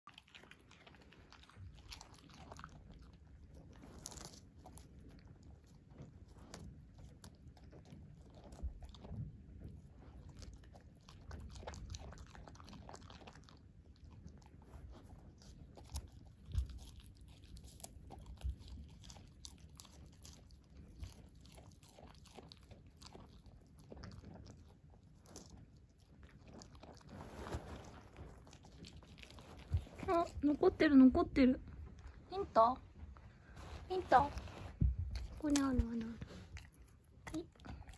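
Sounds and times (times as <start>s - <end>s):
dog crunching lettuce: 0.0s - 30.8s, 33.6s - 37.9s.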